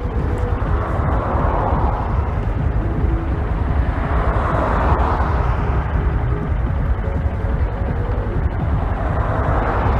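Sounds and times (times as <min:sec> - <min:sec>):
heavy low rumble: 0:00.0 - 0:09.9
muffled motorcycle engine running: 0:00.0 - 0:09.9.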